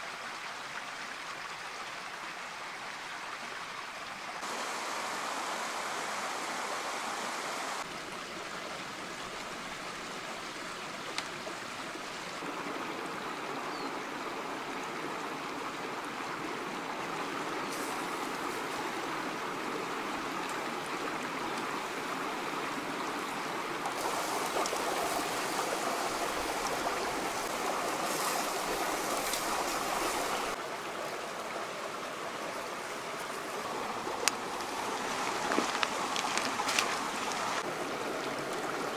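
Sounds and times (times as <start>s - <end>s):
stream splashing over stones: 0.0s - 38.9s.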